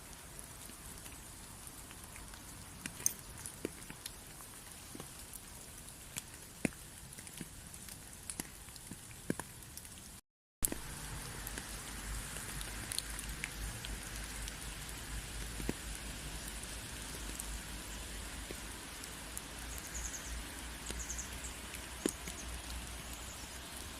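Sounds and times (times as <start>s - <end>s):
raindrops ticking on surface: 0.0s - 23.9s
steady rain hiss: 0.0s - 23.9s.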